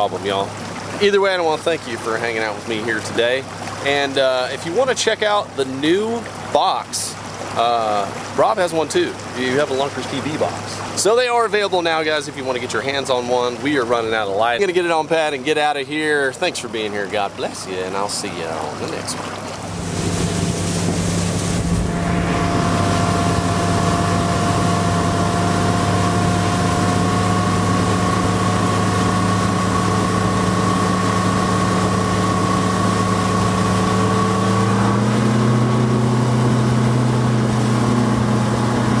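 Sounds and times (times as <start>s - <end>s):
outboard motor drone: 0.0s - 39.0s
wind and water rushing: 0.0s - 39.0s.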